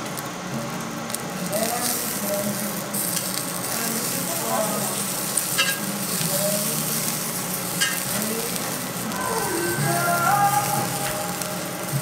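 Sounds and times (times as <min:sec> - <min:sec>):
fat sizzling on hot grill: 0:00.0 - 0:12.0.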